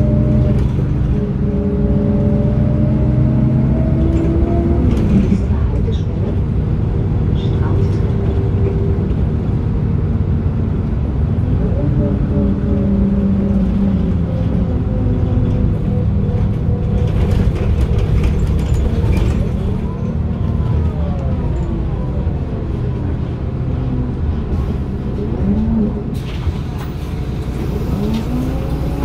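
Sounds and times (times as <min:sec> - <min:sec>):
diesel bus engine running: 0:00.0 - 0:29.0.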